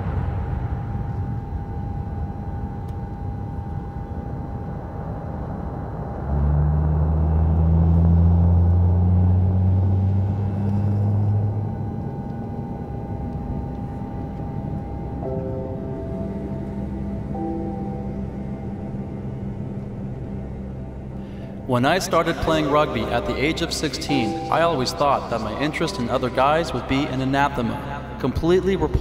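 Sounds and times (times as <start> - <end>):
deep hum: 0.0 - 29.0
faint high whine: 0.0 - 29.0
jet engines rumbling: 0.0 - 29.0.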